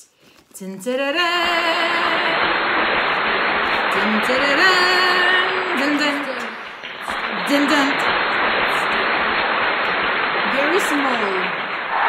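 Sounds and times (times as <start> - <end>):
dense steady hiss: 0.0 - 12.0.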